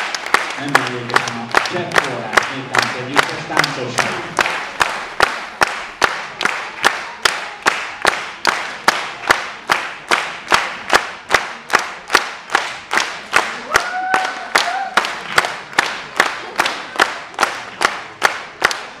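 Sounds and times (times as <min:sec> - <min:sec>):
audience clapping in unison: 0:00.0 - 0:19.0.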